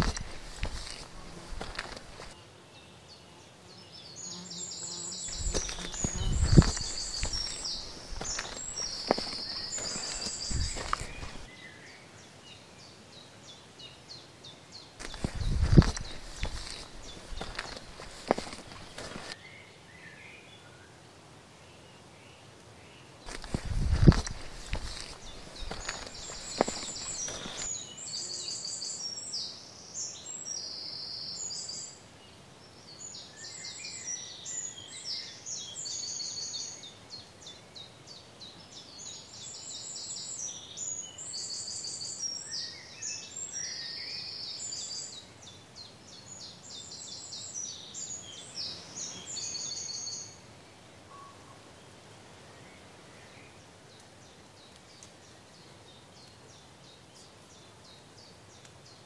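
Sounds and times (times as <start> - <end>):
songbird chirps and trills: 0.0 - 20.9, 21.6 - 59.0
faint outdoor hiss: 0.0 - 59.0.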